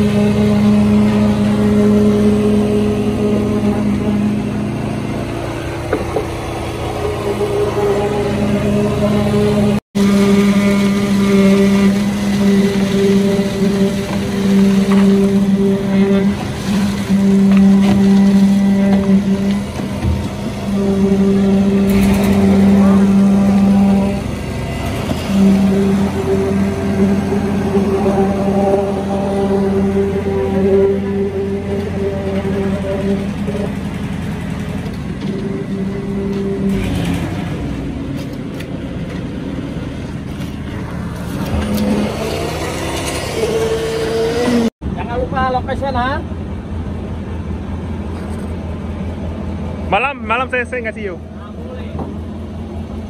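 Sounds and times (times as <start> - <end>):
concrete vibrator humming: 0.0 - 44.7
small engine droning: 0.0 - 45.2.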